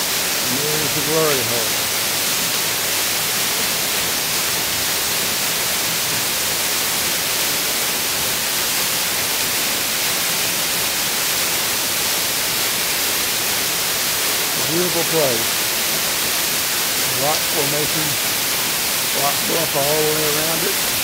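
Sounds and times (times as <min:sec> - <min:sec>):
waterfall splashing onto rocks: 0:00.0 - 0:21.0.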